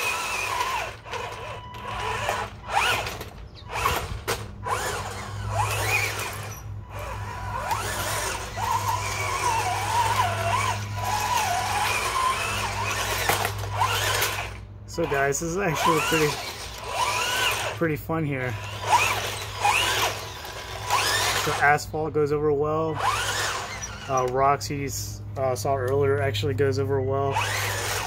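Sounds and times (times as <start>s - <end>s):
steady low hum: 0.0s - 28.0s
toy tank electric motors whining: 0.0s - 28.0s.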